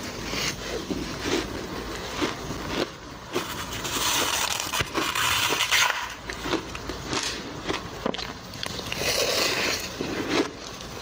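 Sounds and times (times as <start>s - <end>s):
crushed ice crunching: 0.0s - 11.0s.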